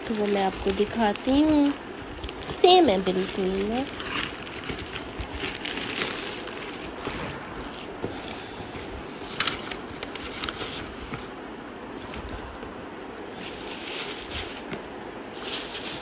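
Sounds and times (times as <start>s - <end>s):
plastic mailer bag crinkling: 0.0s - 11.3s, 13.4s - 16.0s.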